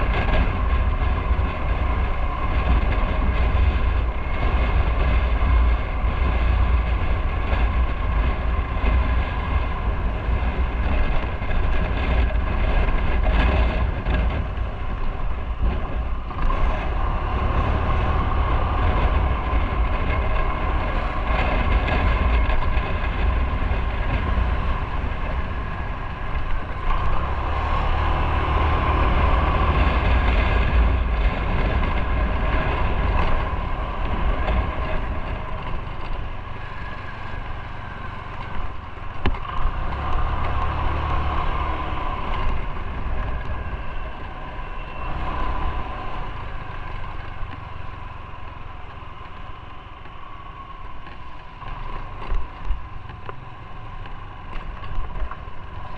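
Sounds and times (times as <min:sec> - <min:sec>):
motorcycle engine running: 0:00.0 - 0:55.9
wind rumbling over microphone: 0:00.0 - 0:55.9.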